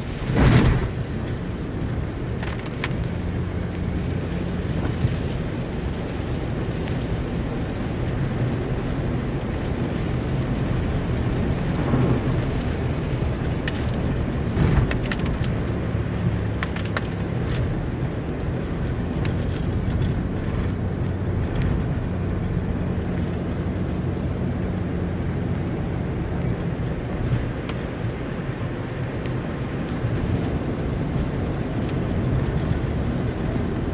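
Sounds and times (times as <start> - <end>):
road and rain noise: 0.0 - 33.9
vehicle engine hum: 0.0 - 33.9.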